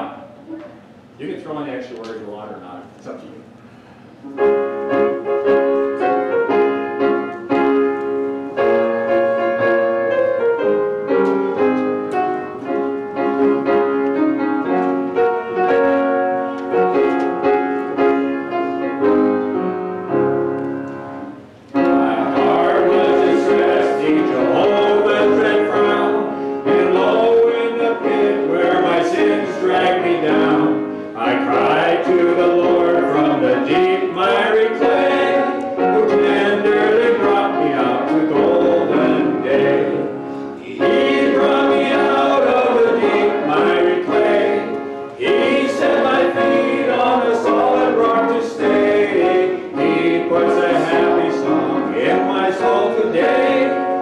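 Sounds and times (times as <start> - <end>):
piano playing: 4.2 - 54.0
voices singing a hymn: 8.5 - 19.6, 21.2 - 54.0.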